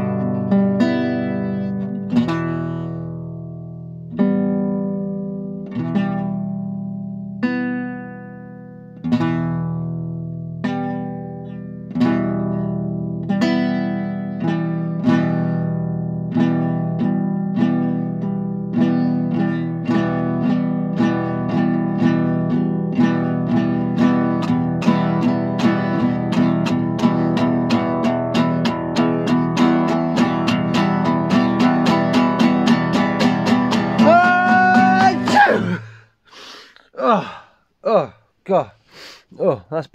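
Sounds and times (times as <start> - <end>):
fingerpicked acoustic guitar: 0.0 - 36.0.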